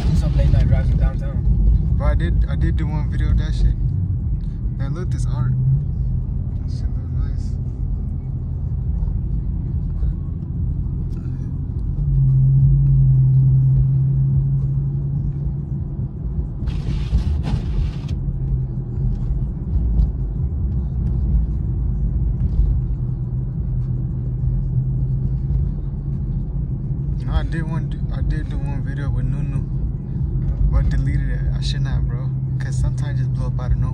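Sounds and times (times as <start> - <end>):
car engine and tyres drone: 0.0 - 33.9.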